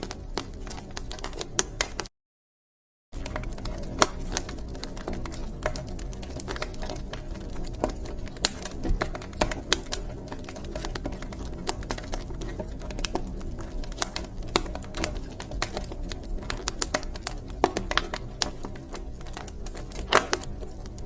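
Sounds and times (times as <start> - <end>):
wood fire crackling: 0.0 - 2.1, 3.2 - 21.0
loud fire pops: 3.2 - 21.0.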